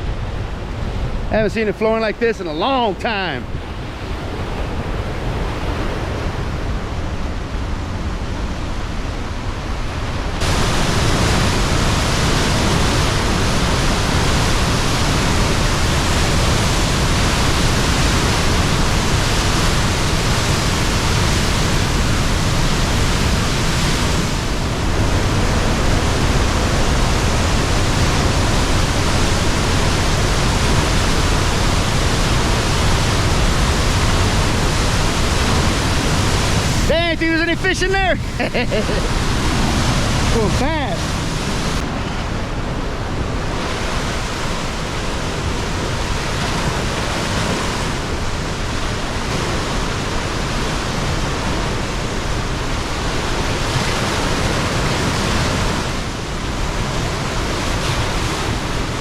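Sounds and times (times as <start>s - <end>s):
water roaring through spillway: 0.0s - 59.0s.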